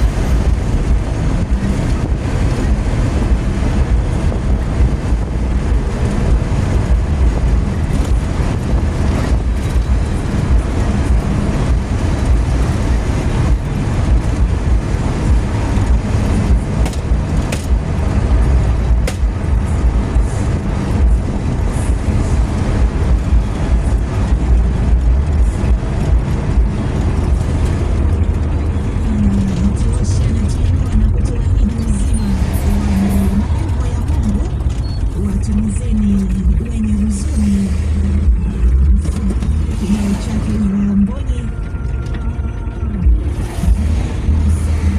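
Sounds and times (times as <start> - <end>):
vehicle engine and tyre rumble: 0.0 - 44.9.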